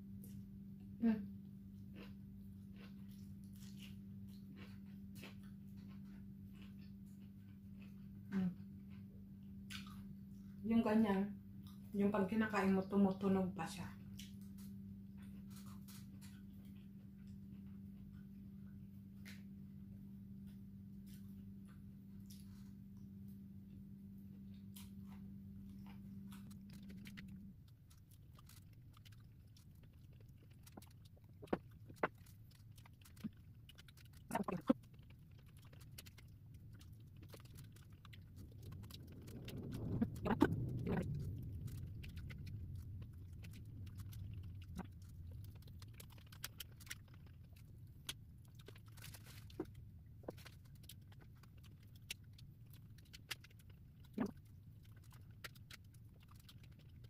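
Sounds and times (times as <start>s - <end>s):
chewing noodles: 1.6s - 10.6s, 13.9s - 19.7s, 20.4s - 57.0s.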